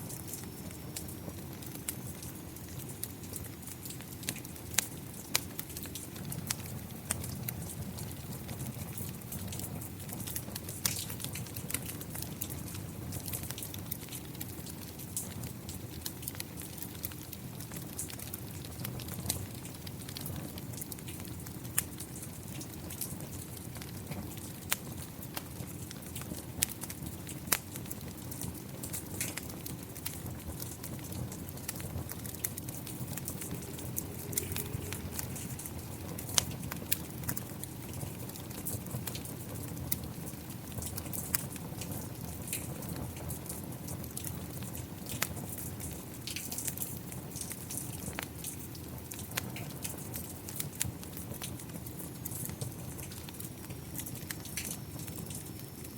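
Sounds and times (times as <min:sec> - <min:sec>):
fireplace fire crackling: 0:00.0 - 0:55.9
rain falling: 0:00.0 - 0:55.9
fire pops: 0:00.2 - 0:55.5.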